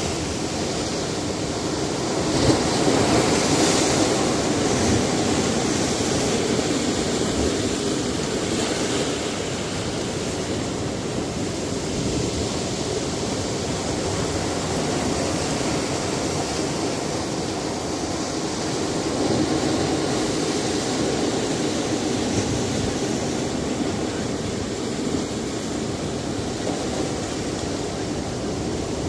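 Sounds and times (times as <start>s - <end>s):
waves on a rocky shore: 0.0s - 29.0s.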